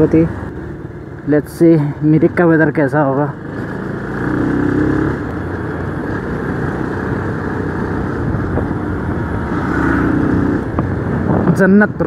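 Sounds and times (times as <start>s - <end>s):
motorcycle cruising: 0.0s - 12.0s.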